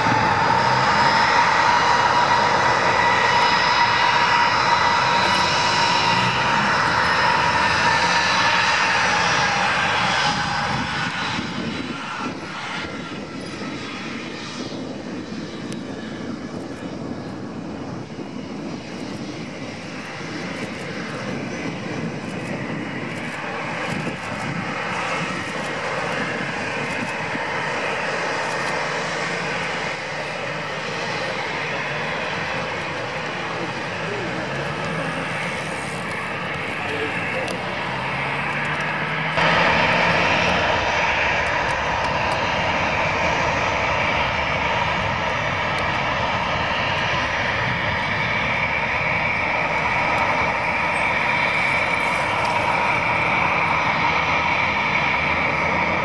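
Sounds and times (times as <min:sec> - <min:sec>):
dull engine rush: 0:00.0 - 0:56.0
jet engine whine: 0:00.0 - 0:56.0.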